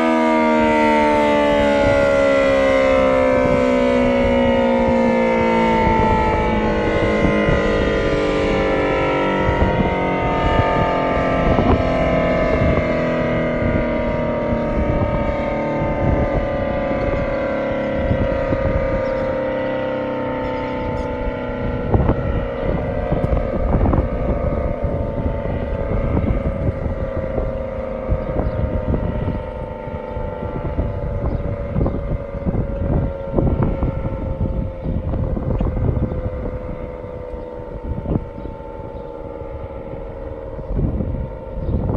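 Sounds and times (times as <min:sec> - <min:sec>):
mechanical siren wailing: 0:00.0 - 0:41.9
wind buffeting microphone: 0:00.0 - 0:41.9.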